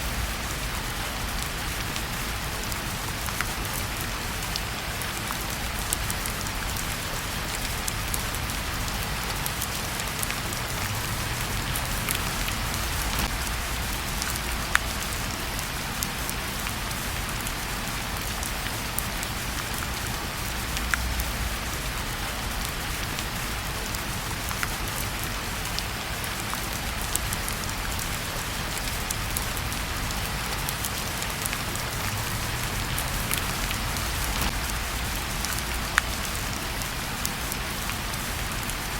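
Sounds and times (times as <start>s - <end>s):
fireplace fire crackling: 0.0s - 38.9s
heavy rain: 0.0s - 38.9s.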